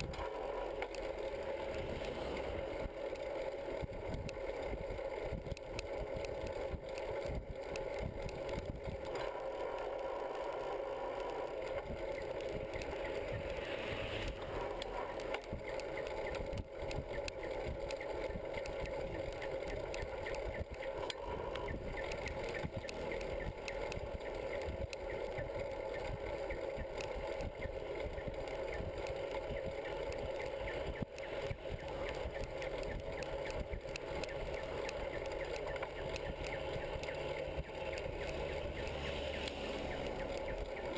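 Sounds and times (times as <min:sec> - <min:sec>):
bicycle riding on asphalt: 0:00.0 - 0:40.9.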